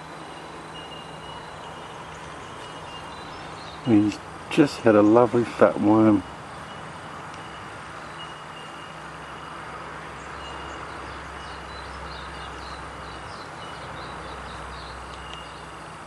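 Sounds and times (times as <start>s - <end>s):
distant vehicle rumble: 0.0s - 16.0s
outdoor background hiss: 0.0s - 16.0s.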